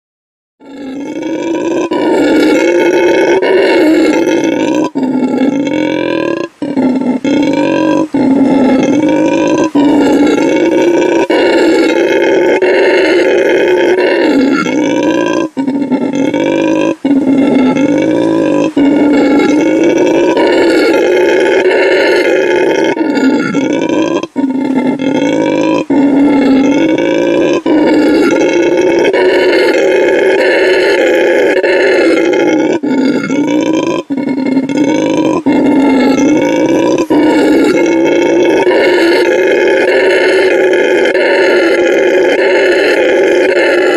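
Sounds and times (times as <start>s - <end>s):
howler monkey howling: 0.6s - 43.9s.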